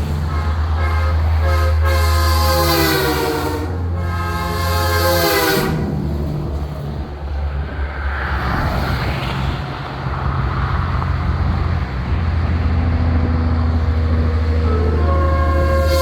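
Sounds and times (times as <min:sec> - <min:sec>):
diesel truck engine droning: 0:00.0 - 0:08.7, 0:09.8 - 0:16.0
road and traffic noise: 0:00.0 - 0:16.0.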